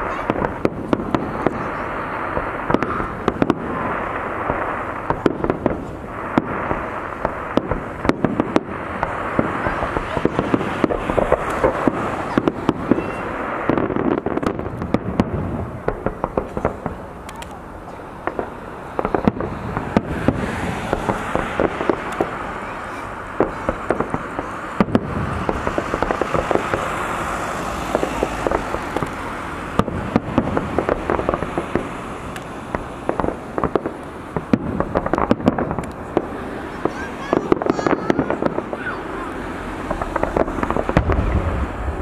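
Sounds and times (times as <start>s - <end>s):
firework shells bursting: 0.0s - 42.0s.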